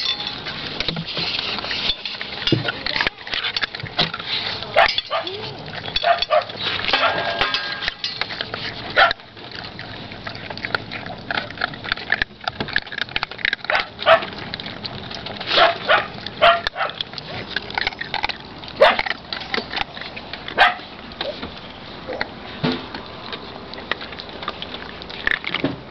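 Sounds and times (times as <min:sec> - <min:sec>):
puppies eating from steel bowl: 0:00.0 - 0:25.9
puppies yipping and whining: 0:01.2 - 0:22.6.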